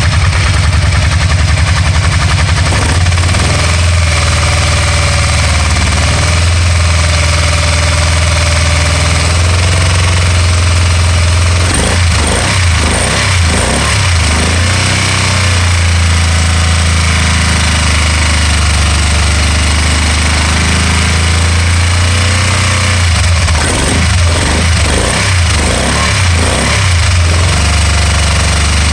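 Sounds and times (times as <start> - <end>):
engine misfiring: 0.0 - 28.9.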